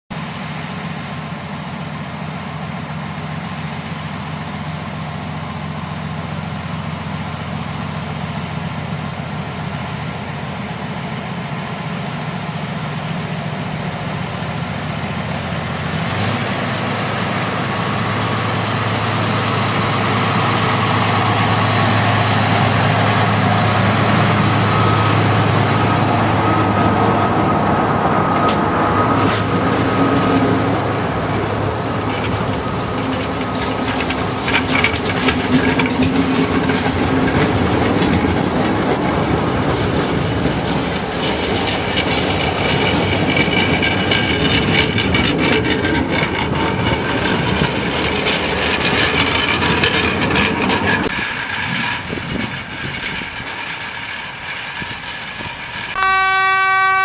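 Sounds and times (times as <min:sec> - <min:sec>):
diesel locomotive engine: 0:00.1 - 0:57.0.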